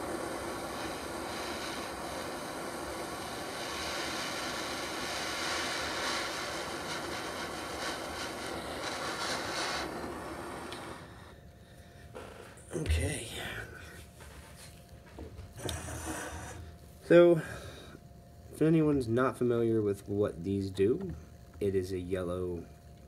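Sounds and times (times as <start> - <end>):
butane torch hissing: 0.0 - 23.0.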